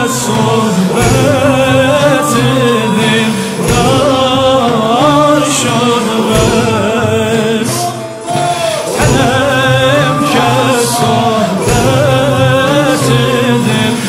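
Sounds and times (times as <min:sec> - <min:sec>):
group of men singing: 0:00.0 - 0:14.0
man singing ornamented melody: 0:00.0 - 0:14.0.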